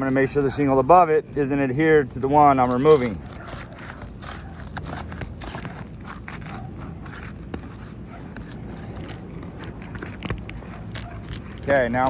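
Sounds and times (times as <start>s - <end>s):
tool scraping roof shingles: 2.1s - 12.0s.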